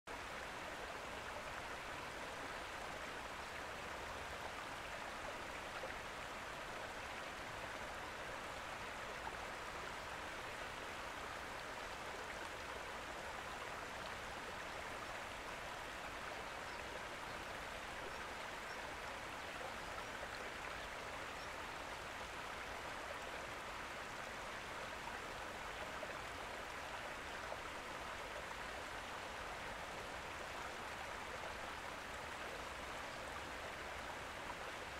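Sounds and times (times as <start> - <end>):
stream water running: 0.1 - 34.9.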